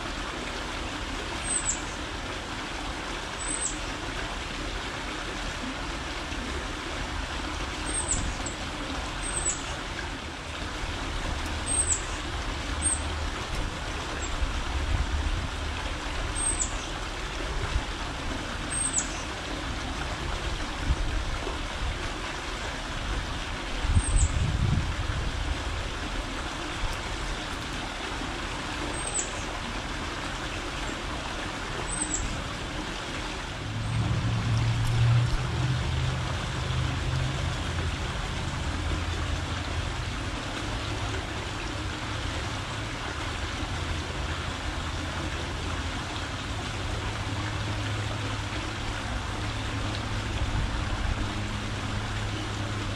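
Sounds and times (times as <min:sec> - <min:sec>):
distant road traffic rumble: 0:00.6 - 0:52.9.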